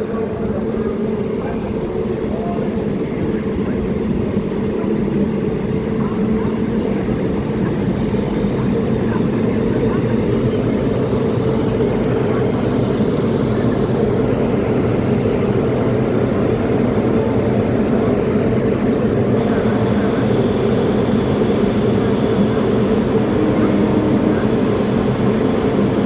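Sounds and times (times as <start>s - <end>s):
locomotive engine drone: 0.0s - 26.0s.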